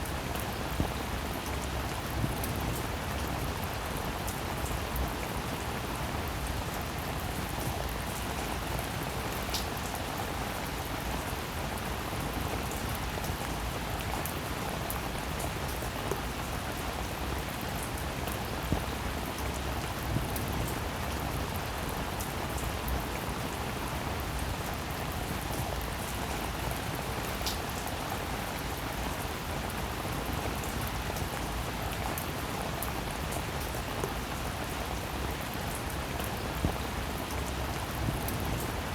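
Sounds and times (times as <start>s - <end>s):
raindrops ticking and dripping: 0.0s - 38.9s
steady rain hiss: 0.0s - 38.9s.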